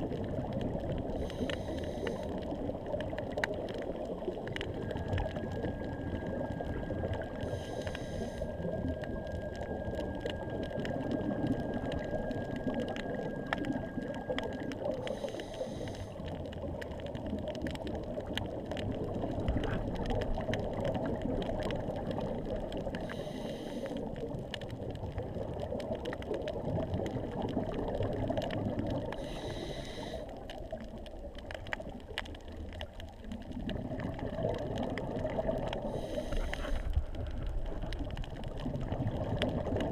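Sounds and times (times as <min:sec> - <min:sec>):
faint clicking: 0:00.0 - 0:39.9
muffled underwater wash: 0:00.0 - 0:39.9.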